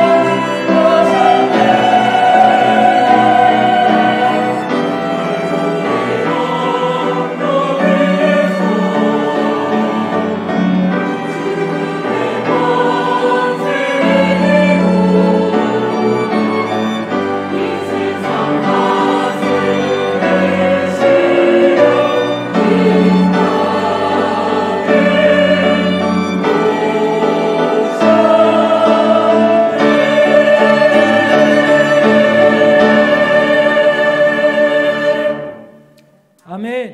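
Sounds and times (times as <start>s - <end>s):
church choir singing: 0.0s - 36.0s
piano: 0.0s - 36.4s.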